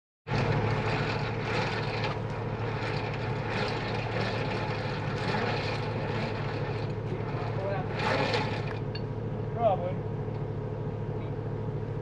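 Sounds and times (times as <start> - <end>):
vehicle engine running: 0.3 - 12.0.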